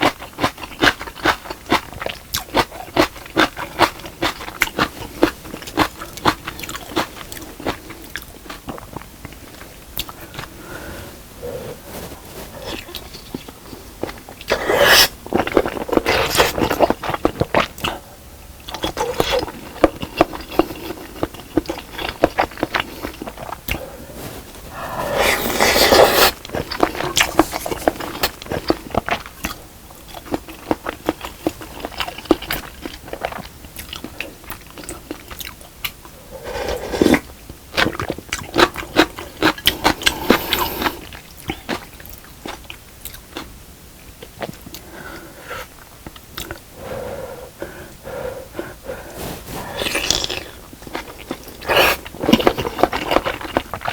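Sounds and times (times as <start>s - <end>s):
person chewing and crunching food: 0.0s - 43.5s, 44.1s - 53.9s.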